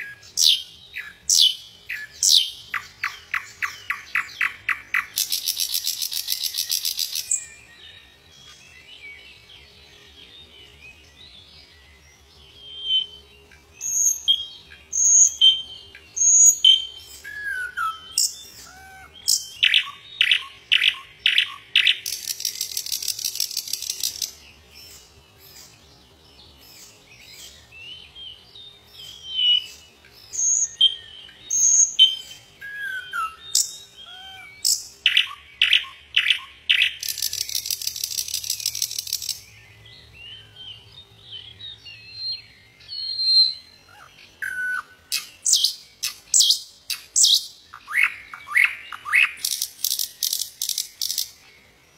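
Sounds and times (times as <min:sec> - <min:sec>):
nightingale singing: 0:00.0 - 0:51.9.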